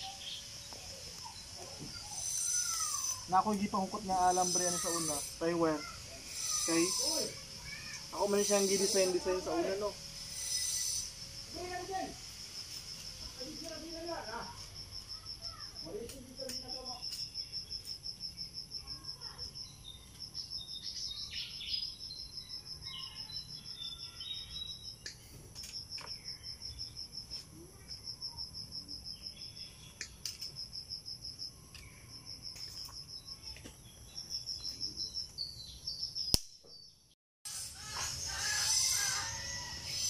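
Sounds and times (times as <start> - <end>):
steady high insect whine: 0.0 - 36.6, 37.5 - 40.0
crickets chirping in pulses: 0.0 - 40.0.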